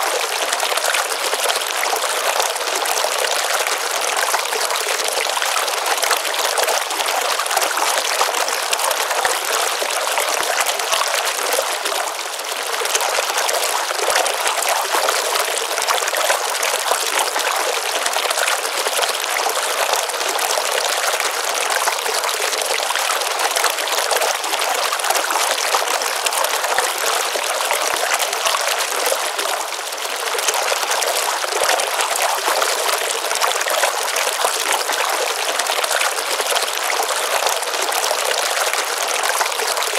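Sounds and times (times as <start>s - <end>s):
stream water running and splashing: 0.0s - 39.9s.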